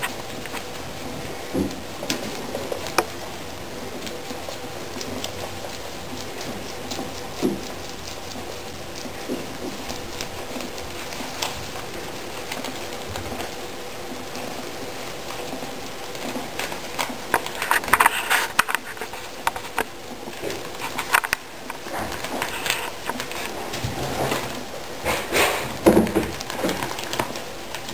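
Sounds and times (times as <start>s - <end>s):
guinea pigs munching greens: 0.0s - 27.9s
leaves rustling: 0.0s - 27.9s.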